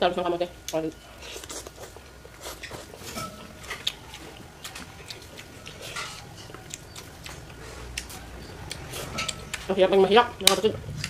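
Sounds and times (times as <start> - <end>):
person chewing and smacking: 0.7 - 9.7.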